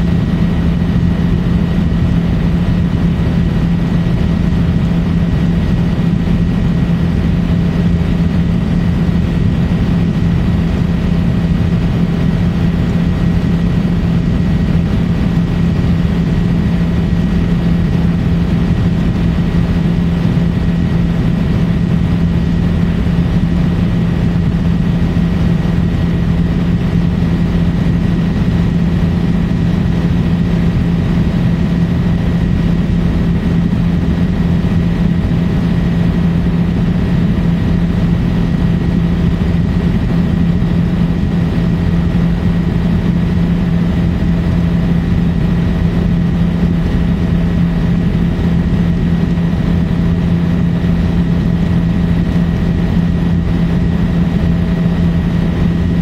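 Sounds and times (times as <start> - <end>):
helicopter engine and rotor noise: 0.0 - 56.0.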